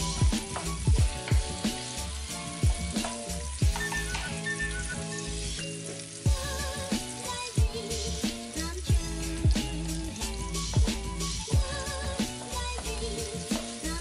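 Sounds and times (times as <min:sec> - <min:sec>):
music with steady beat: 0:00.0 - 0:14.0
onion sizzling in hot oil: 0:00.0 - 0:14.0.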